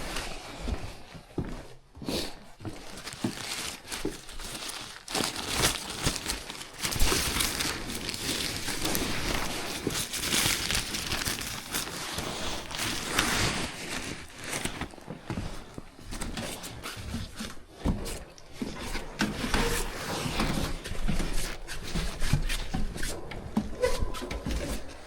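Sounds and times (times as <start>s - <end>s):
rustling and rubbing: 2.6s - 25.0s.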